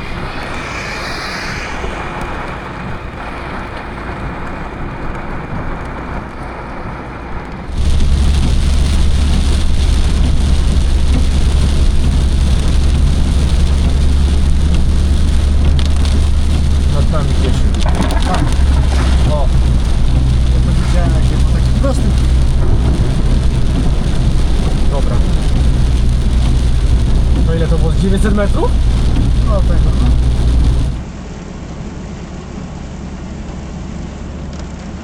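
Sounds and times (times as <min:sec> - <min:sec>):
low rumble and hiss: 0:00.0 - 0:03.6, 0:07.4 - 0:35.0
rain on a car: 0:04.6 - 0:35.0
road noise inside a car: 0:06.4 - 0:35.0.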